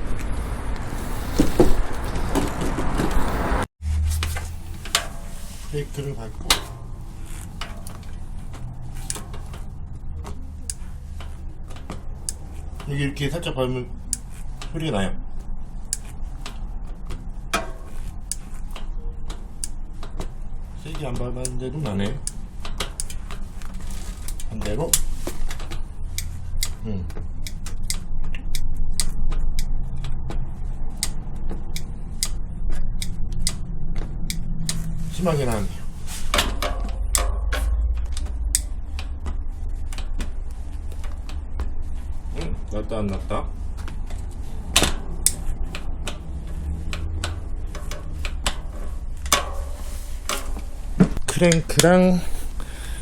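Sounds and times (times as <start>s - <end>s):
low steady rumble: 0.0s - 53.0s
bicycle pedal clicking: 4.2s - 53.0s.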